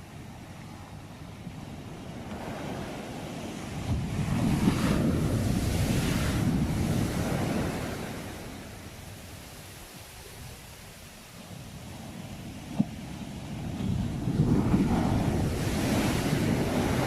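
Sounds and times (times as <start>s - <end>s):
sea waves breaking on shore: 0.0s - 17.0s
wind buffeting microphone: 0.0s - 17.0s.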